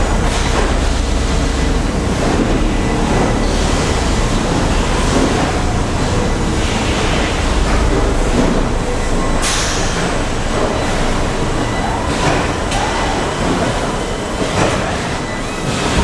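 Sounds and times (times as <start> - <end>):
machinery rumble and hiss: 0.0 - 16.0.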